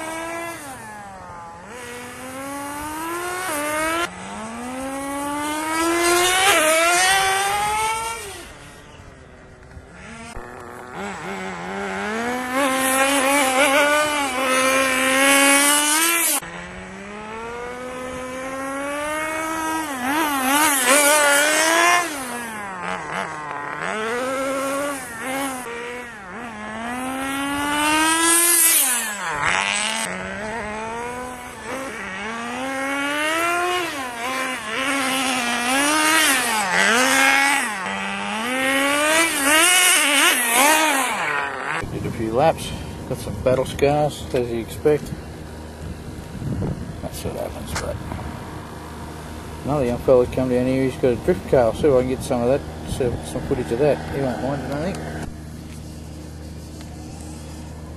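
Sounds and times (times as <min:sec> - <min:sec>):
rc car engine buzzing whine: 0:00.0 - 0:57.9.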